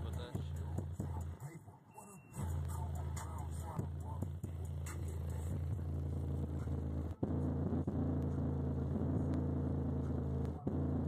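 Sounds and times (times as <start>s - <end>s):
bass-heavy music: 0.0s - 11.0s.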